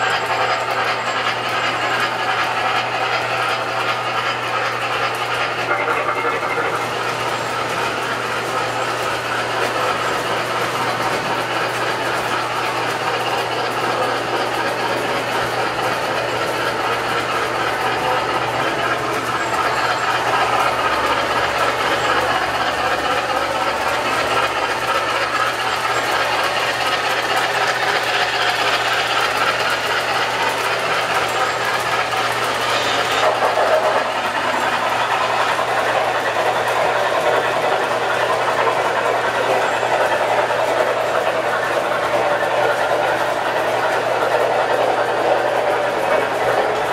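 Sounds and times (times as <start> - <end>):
model trains rolling on track: 0.0 - 46.9
steady low hum: 0.0 - 46.9.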